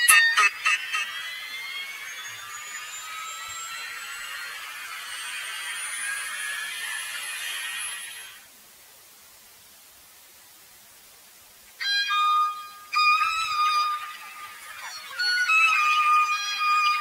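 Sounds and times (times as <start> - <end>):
rising synth tone with hiss: 0.0 - 17.0.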